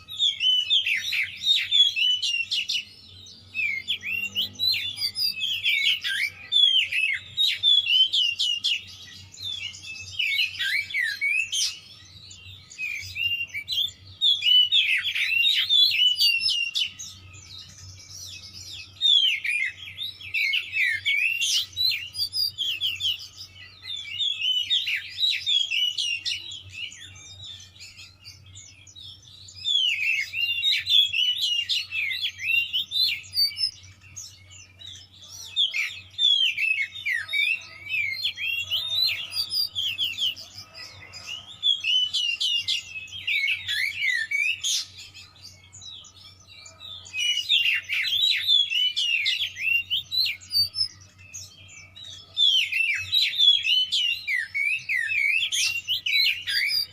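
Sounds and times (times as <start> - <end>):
bird singing whistled phrases: 0.0 - 56.9.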